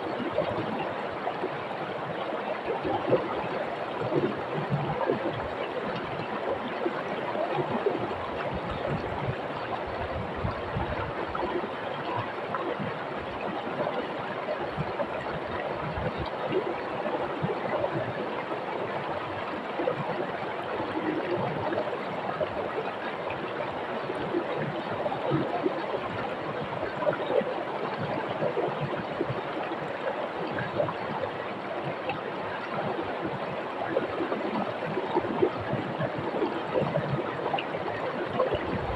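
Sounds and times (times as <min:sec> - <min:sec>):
small water splashes: 0:00.0 - 0:38.9.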